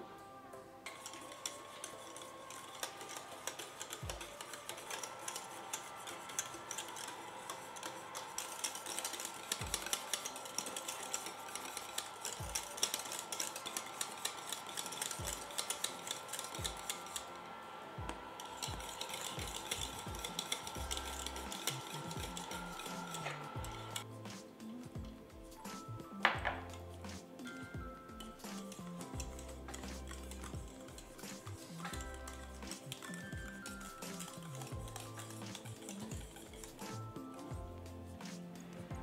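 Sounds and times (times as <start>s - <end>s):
wire whisk scraping a saucepan: 0.8s - 17.5s, 18.3s - 24.4s, 25.7s - 39.0s.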